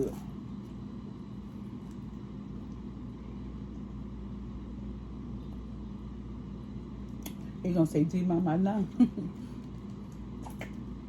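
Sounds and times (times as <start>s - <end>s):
low mechanical hum and rumble: 0.0s - 11.0s.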